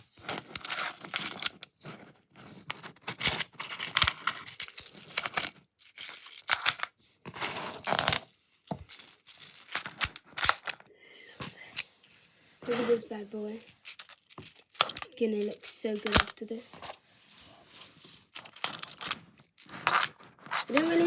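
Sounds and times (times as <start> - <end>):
rummaging and scraping: 0.0 - 21.0.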